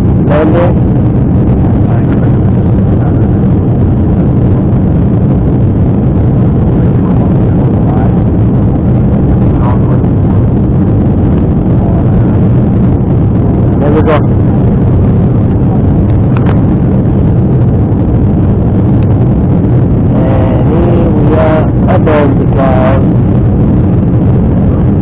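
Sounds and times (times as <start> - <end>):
jet engines droning: 0.0 - 25.0
rushing air in cabin: 0.0 - 25.0.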